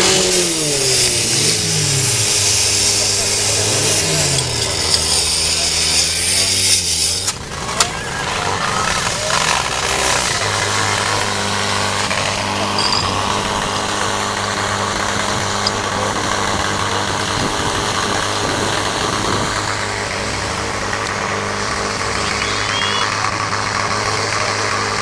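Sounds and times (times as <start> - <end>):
fire pump engine running: 0.0 - 25.0.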